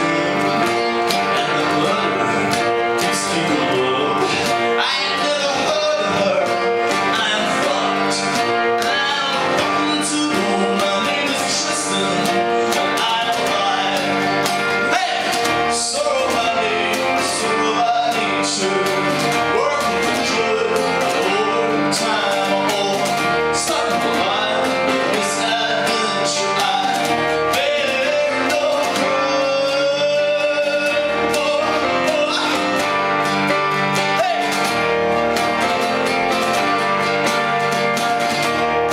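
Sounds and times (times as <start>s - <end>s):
man singing: 0.0s - 36.0s
ukulele strumming: 0.0s - 38.9s.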